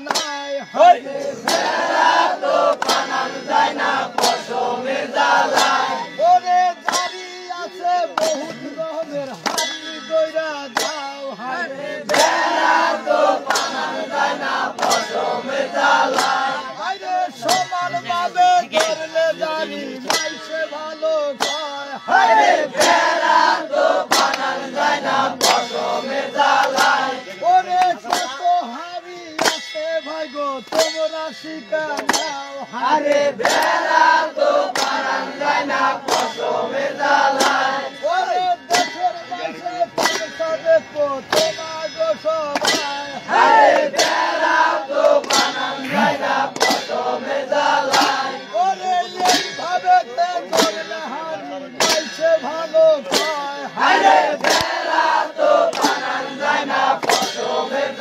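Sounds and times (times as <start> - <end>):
rowers chanting: 0.0 - 9.7, 11.3 - 28.8, 31.8 - 58.0.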